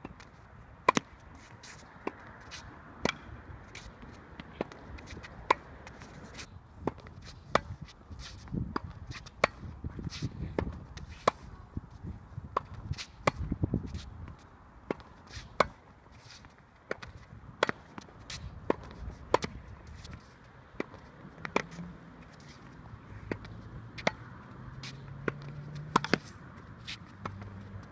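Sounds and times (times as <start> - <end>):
racket hitting tennis ball: 0.0 - 11.5, 12.5 - 14.1, 14.8 - 27.9
shoe scuffs on court: 0.9 - 2.7, 3.6 - 11.6, 12.6 - 14.2, 15.1 - 27.9.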